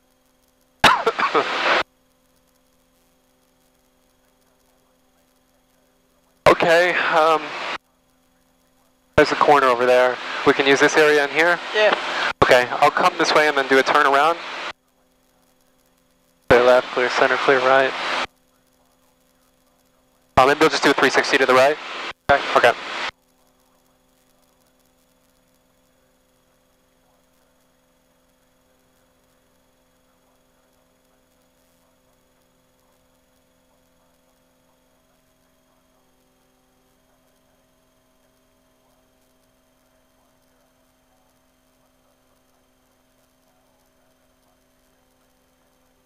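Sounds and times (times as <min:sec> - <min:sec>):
faint electrical hum: 0:00.0 - 0:46.0.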